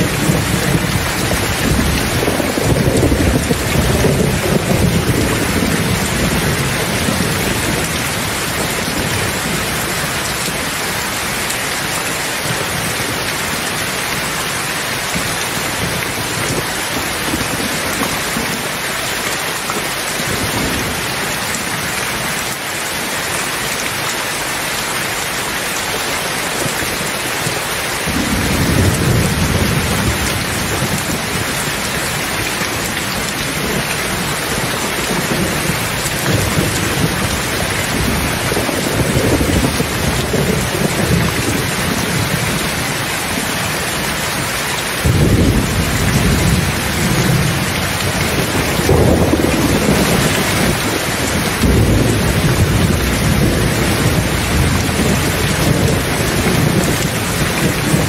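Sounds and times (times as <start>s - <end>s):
thunder rumbling: 0.0s - 18.8s, 28.0s - 58.0s
steady rain: 0.0s - 58.0s.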